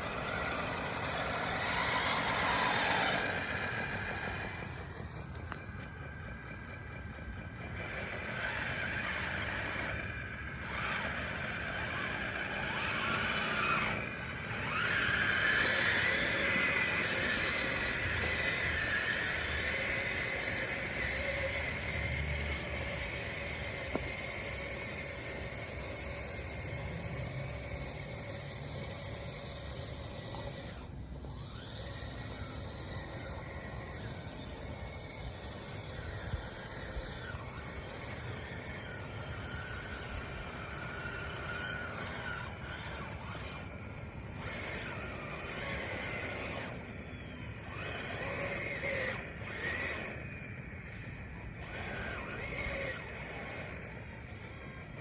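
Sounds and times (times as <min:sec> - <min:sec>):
electric motors whining with hiss: 0:00.0 - 0:55.0.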